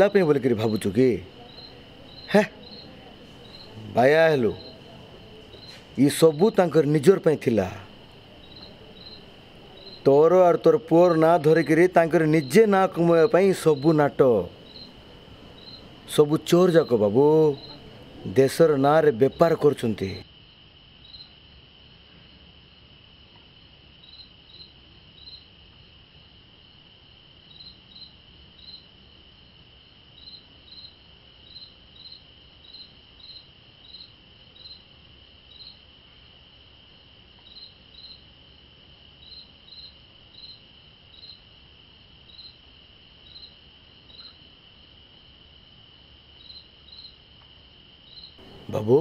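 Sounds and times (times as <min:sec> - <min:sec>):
cricket chirps: 0:00.0 - 0:49.0
crickets trilling: 0:00.0 - 0:49.0.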